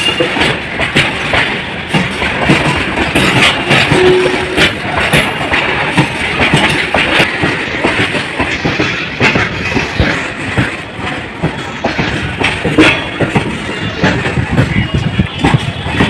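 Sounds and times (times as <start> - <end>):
freight wagons rumbling and rattling: 0.0 - 16.0
train wheels clacking over rail joints: 0.0 - 16.0.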